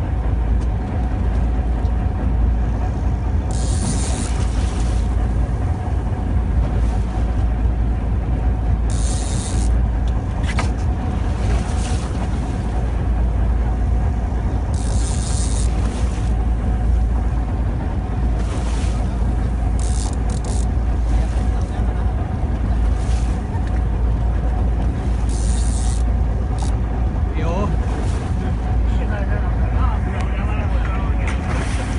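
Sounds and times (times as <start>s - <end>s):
boat engine rumbling: 0.0s - 31.9s.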